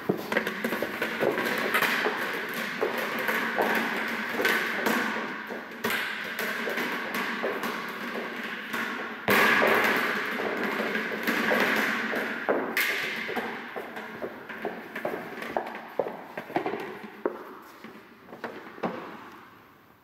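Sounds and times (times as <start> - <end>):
ball thumping with echo: 0.0 - 19.5.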